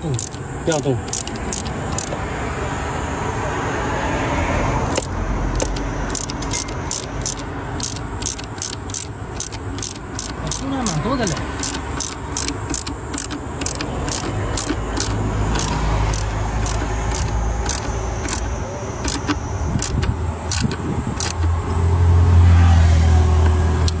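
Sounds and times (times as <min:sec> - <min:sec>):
sharp regular ticking: 0:00.0 - 0:02.3, 0:04.9 - 0:21.8.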